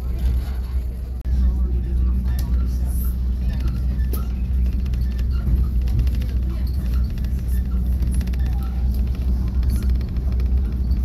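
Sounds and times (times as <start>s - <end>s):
train rumbling and rattling: 0.0s - 11.0s.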